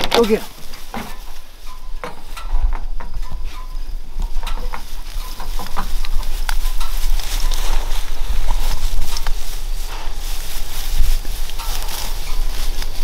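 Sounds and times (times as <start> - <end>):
low microphone rumble: 0.0 - 13.0
tall grass rustling underfoot: 0.0 - 13.0.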